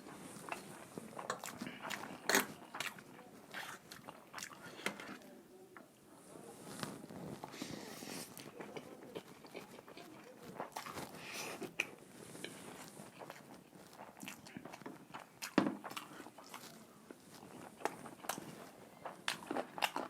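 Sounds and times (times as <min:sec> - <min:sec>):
chewing: 0:00.1 - 0:05.3, 0:06.7 - 0:20.0
food crunching: 0:00.4 - 0:05.3, 0:06.7 - 0:20.0.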